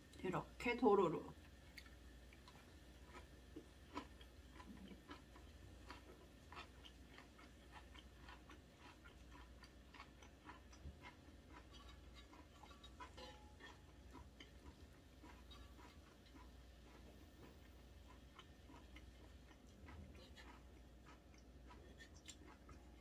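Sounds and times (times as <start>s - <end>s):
person chewing with soft clicks: 1.3s - 23.0s.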